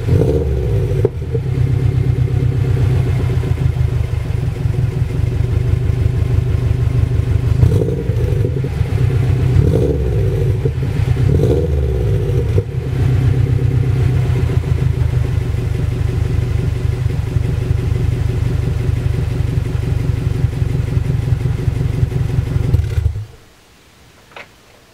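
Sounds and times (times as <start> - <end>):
car exhaust idling: 0.0 - 23.4
engine throttle blips: 0.0 - 23.4.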